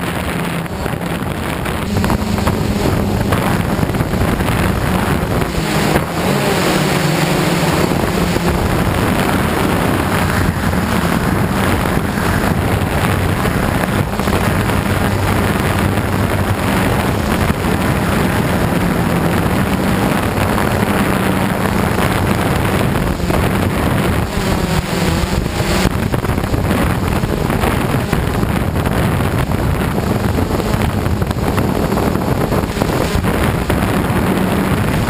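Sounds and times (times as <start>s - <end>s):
drone propellers buzzing: 0.0s - 35.0s
wind on microphone: 0.0s - 35.0s.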